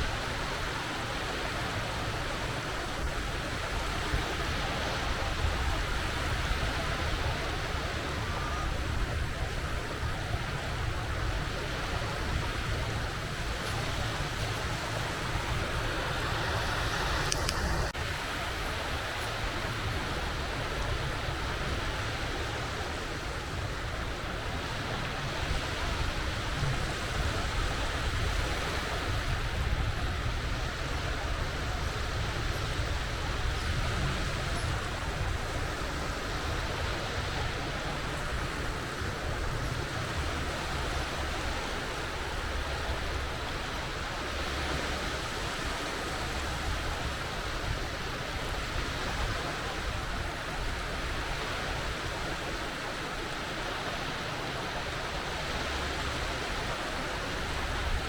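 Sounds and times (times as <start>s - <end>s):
sea waves washing on shore: 0.0s - 58.0s.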